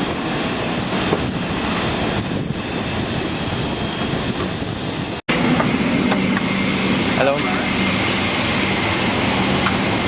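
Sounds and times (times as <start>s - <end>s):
engine roar: 0.0s - 10.0s.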